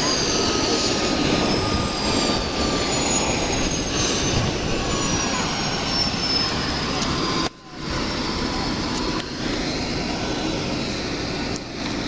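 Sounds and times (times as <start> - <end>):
helicopter turbine and rotor noise: 0.0 - 12.0
high turbine whine: 0.0 - 12.0.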